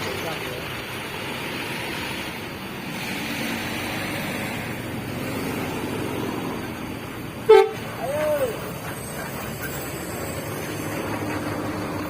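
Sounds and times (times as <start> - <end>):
traffic passing: 0.0 - 12.0
vehicle engines running: 0.0 - 12.0.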